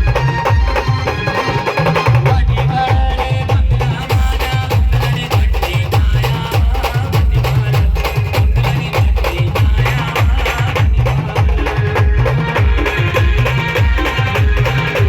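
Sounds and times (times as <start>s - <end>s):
drums and percussion: 0.0s - 15.0s
heavy bass line: 0.0s - 15.0s.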